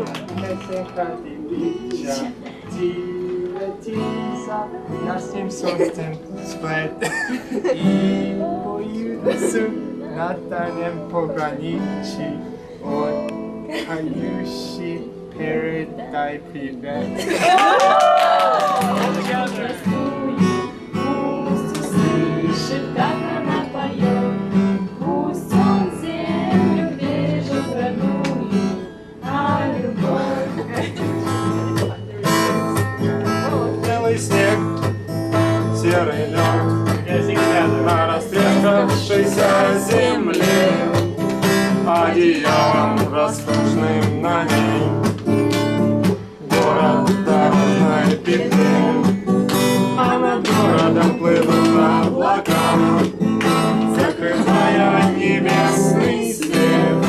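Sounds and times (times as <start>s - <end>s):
acoustic guitar strumming: 0.0s - 17.6s, 18.6s - 57.0s
voices singing: 1.0s - 57.0s.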